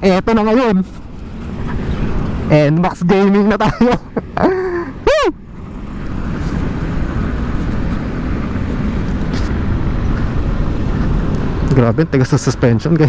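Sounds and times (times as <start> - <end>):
scooter road noise: 0.0 - 13.0.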